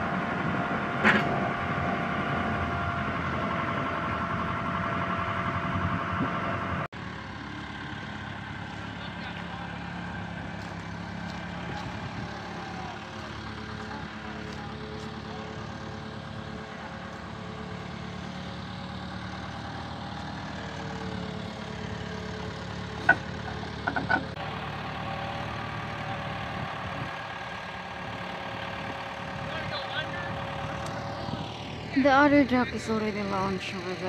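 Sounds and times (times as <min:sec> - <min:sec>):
engines idling: 0:00.0 - 0:34.0.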